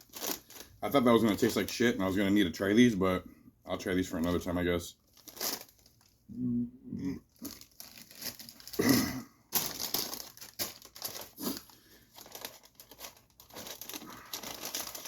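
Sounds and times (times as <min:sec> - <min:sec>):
plastic packaging crinkling: 0:00.0 - 0:02.3, 0:04.0 - 0:06.2, 0:07.3 - 0:15.0.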